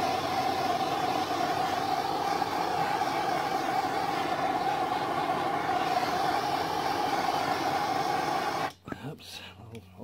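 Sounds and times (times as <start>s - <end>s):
heat gun blowing: 0.0s - 8.8s
steady hum: 0.0s - 8.8s.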